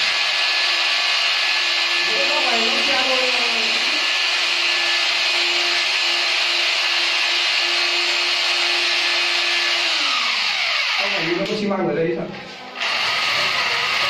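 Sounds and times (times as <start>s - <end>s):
hammer drill boring into tile: 0.0s - 11.6s, 12.8s - 14.0s.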